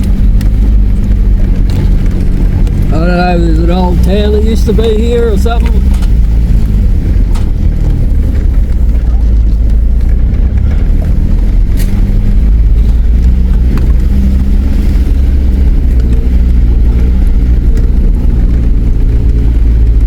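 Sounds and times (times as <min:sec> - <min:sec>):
deep continuous rumble: 0:00.0 - 0:20.0
vehicle engine running: 0:00.0 - 0:20.0.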